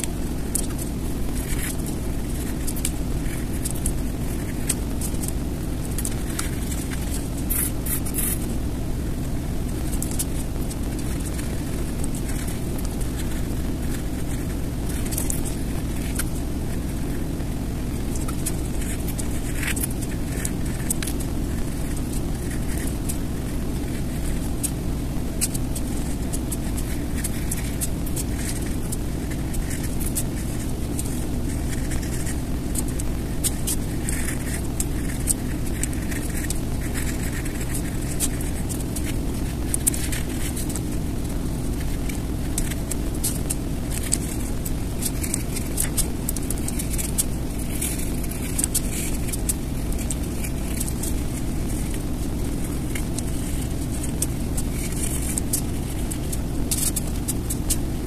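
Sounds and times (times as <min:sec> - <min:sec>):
light scratching: 0:00.0 - 0:58.0
low background rumble: 0:00.0 - 0:58.0.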